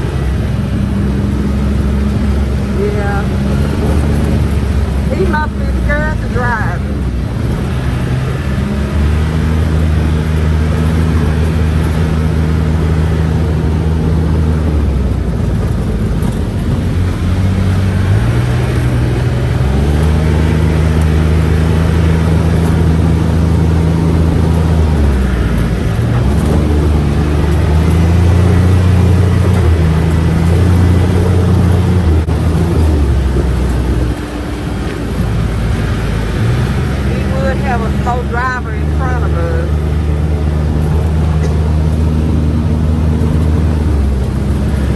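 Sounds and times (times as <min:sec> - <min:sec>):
rolling noise rumble: 0:00.0 - 0:44.9
utility vehicle engine running: 0:00.0 - 0:44.9.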